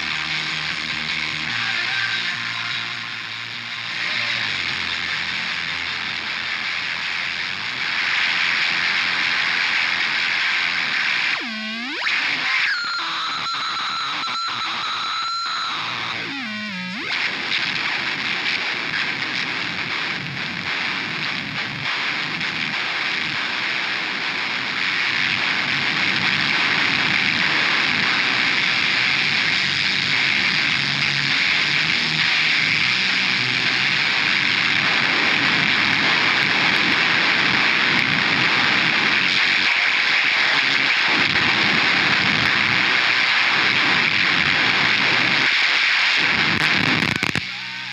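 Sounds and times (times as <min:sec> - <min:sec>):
harsh electronic noise: 0:06.9 - 0:47.9.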